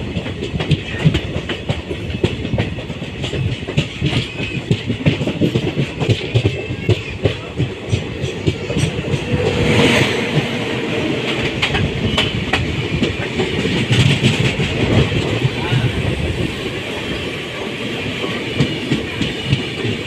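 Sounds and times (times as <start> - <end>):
train wheels clattering: 0.0 - 20.0.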